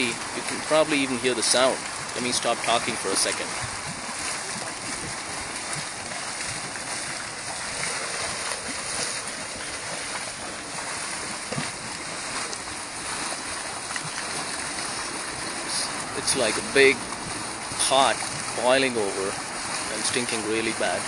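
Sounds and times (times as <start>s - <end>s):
hot spring bubbling and venting steam: 0.0s - 21.0s.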